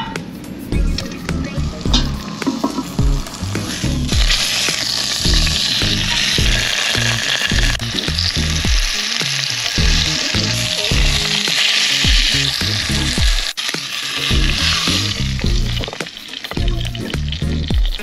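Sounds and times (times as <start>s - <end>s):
background music with bass beat: 0.0s - 13.6s, 14.2s - 18.0s
food sizzling in a pot: 0.0s - 18.0s.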